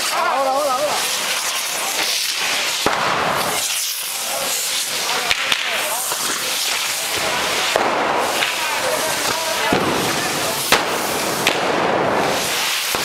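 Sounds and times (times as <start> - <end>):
ground rockets hissing: 0.0 - 13.0
sharp cracks: 0.0 - 13.0.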